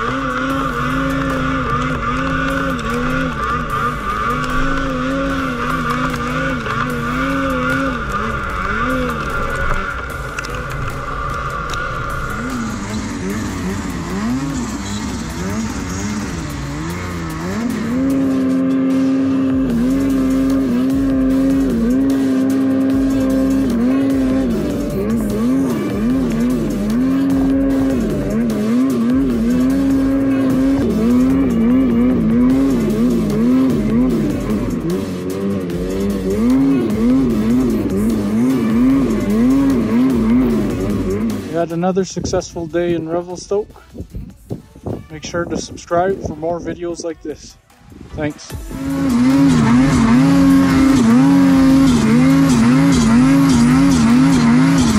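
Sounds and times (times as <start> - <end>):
snowmobile engine revving: 0.0 - 43.7, 48.2 - 54.9.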